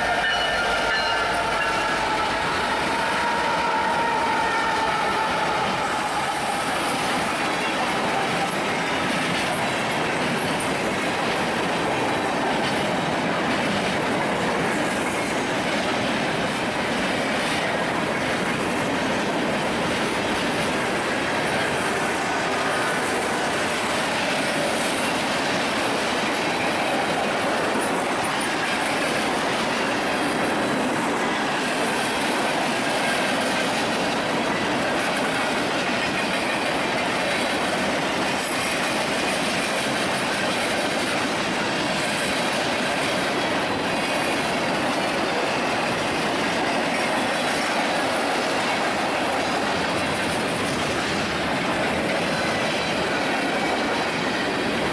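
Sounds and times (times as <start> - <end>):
railroad cars rolling past: 0.0 - 54.9.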